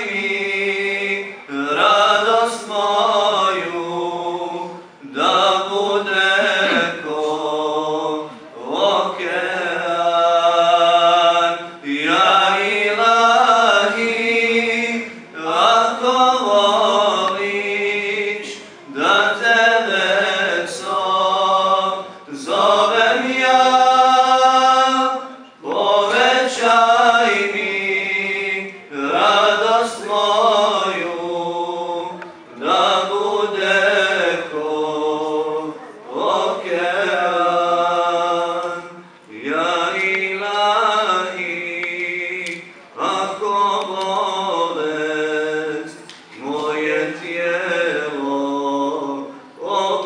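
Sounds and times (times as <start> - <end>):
man singing unaccompanied hymn: 0.0 - 50.0.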